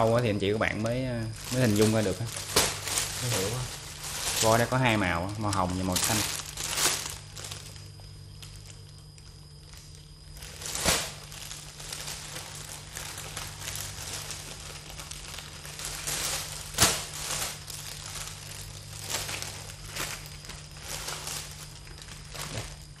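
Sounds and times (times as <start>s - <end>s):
plastic wrapping crinkling: 0.0s - 23.0s
sharp plastic crackles: 0.0s - 23.0s.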